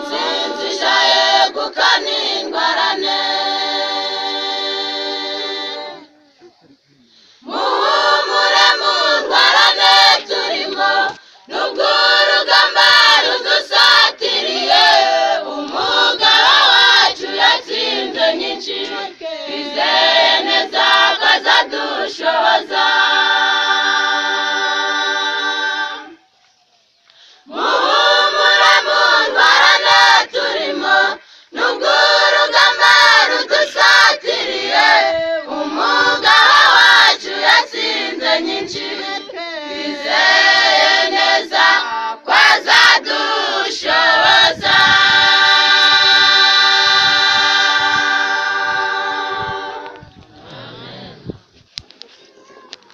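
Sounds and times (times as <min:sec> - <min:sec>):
choir of women singing: 0:00.0 - 0:06.2, 0:07.4 - 0:26.4, 0:27.4 - 0:51.4.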